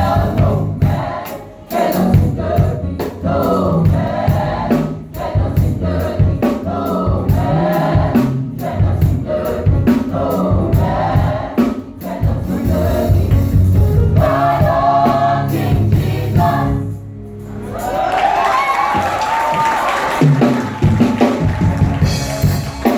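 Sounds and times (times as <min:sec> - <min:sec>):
gospel group singing in harmony: 0:00.0 - 0:18.0, 0:22.0 - 0:22.9
steady percussive beat: 0:00.0 - 0:22.9.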